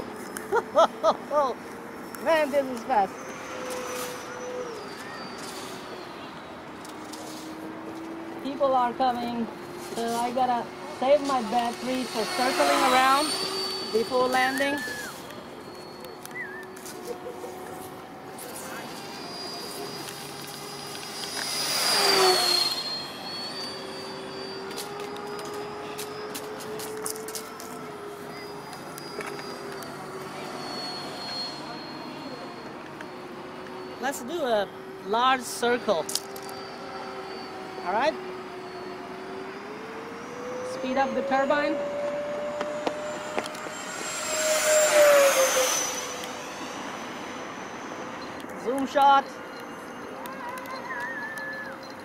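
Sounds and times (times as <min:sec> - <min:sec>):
model jet fan whine: 0:01.7 - 0:52.0.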